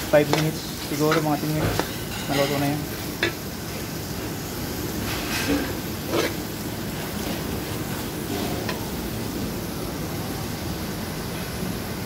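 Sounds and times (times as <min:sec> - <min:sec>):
food sizzling in pot: 0:00.0 - 0:12.0.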